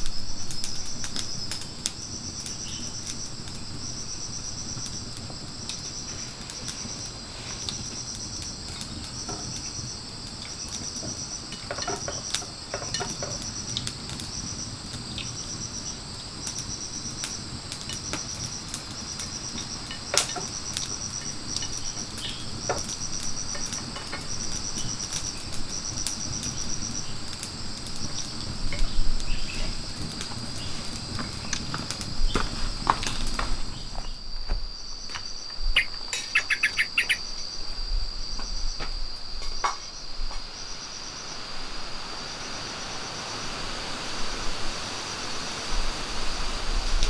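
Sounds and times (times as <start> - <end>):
insects chorus: 0.0 - 47.0.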